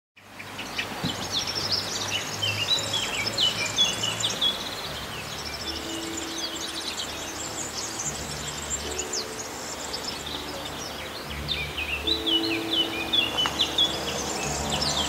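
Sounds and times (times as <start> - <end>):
birds singing: 0.2 - 15.0.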